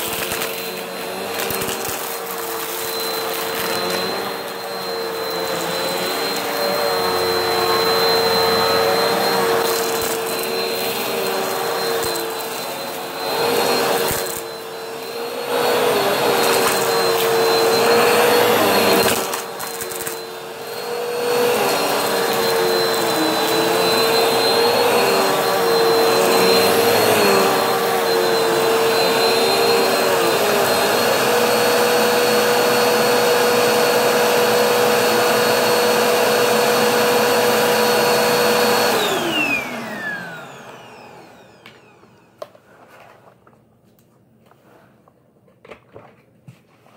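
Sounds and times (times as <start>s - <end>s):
vacuum cleaner motor whine: 0.0s - 43.1s.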